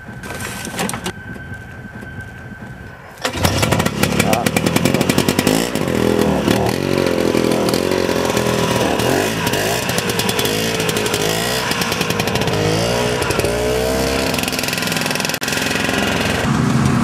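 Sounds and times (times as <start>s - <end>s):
snowmobile engine revving: 3.2s - 17.0s.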